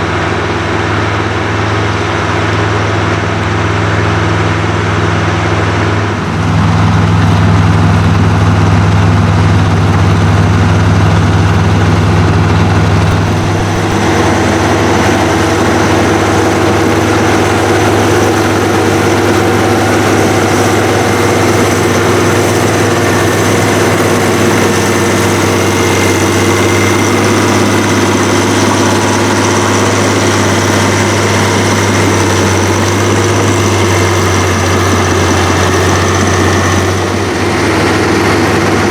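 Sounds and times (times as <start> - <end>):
heavy diesel tractor engines droning: 0.0 - 38.9.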